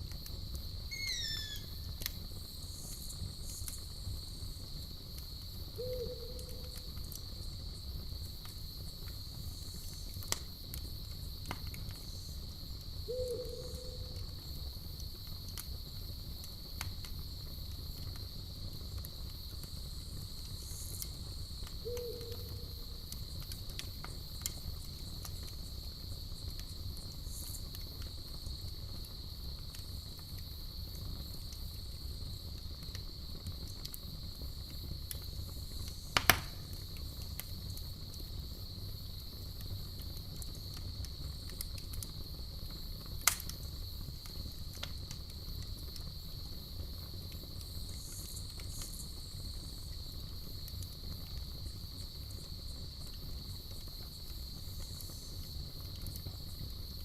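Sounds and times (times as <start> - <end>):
campfire crackling: 0.0 - 57.0
crickets chirring: 0.0 - 57.0.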